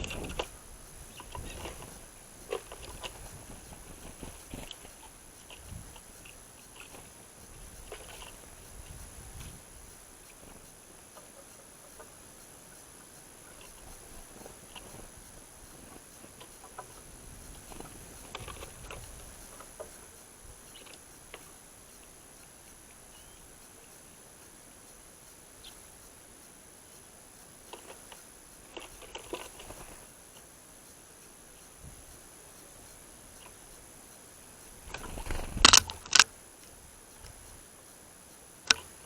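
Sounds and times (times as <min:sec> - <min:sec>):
birds pecking and hopping: 0:00.0 - 0:39.0.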